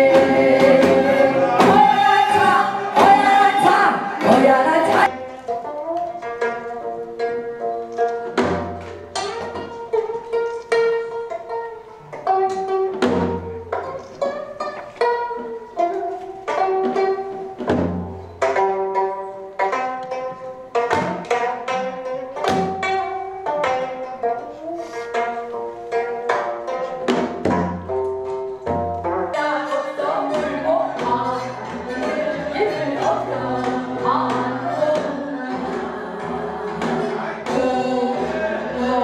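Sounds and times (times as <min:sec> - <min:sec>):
plucked zither notes: 0:02.8 - 0:39.0.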